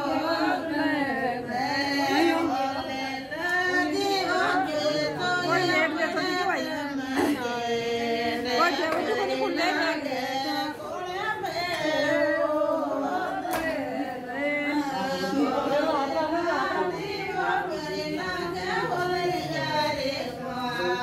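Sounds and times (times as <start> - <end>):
women singing folk song: 0.0 - 21.0.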